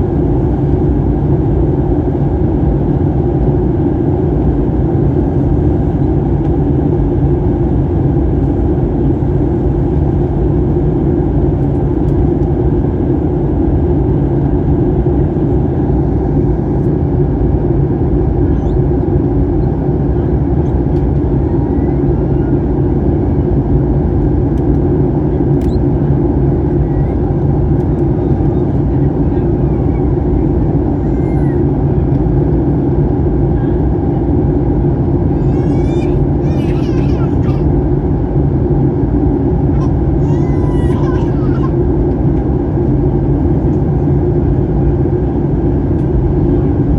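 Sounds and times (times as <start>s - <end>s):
airplane cabin engine drone: 0.0s - 46.9s.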